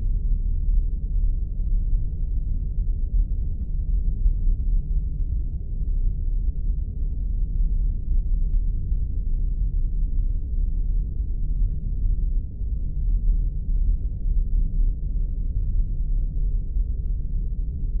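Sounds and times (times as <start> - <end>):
muffled low rumble: 0.0 - 18.0.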